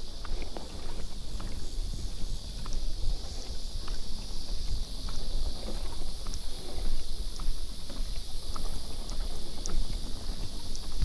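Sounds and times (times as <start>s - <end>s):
high insect hiss: 0.0s - 11.0s
wind buffeting microphone: 0.0s - 11.0s.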